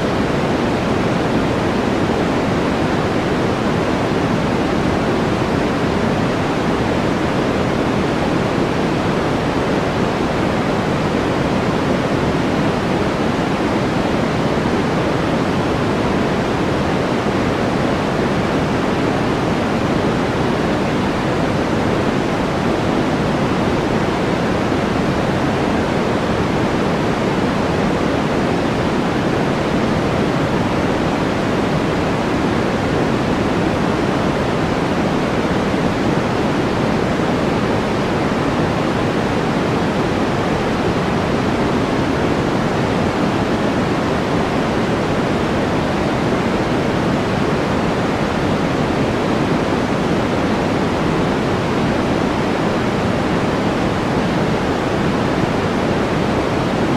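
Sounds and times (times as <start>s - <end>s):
white noise rush: 0.0s - 56.9s.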